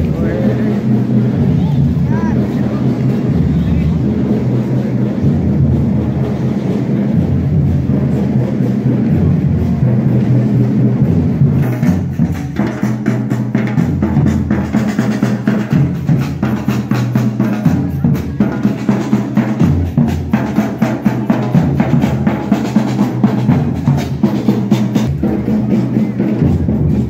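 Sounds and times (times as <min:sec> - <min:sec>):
bass drums beating: 0:00.0 - 0:27.0.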